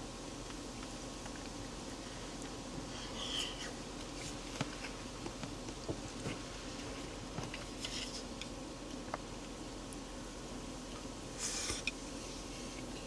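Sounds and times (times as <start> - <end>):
insect buzzing: 0.0 - 13.0.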